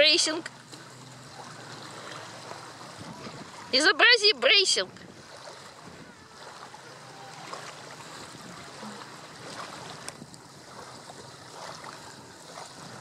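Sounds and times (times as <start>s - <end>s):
kayak paddle splashing: 0.0s - 13.0s
water lapping around hull: 0.0s - 13.0s.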